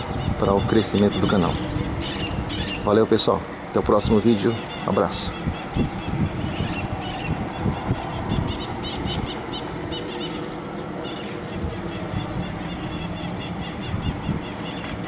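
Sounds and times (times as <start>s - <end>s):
birds chirping: 0.0s - 15.0s
distant helicopter rumble: 0.0s - 15.0s.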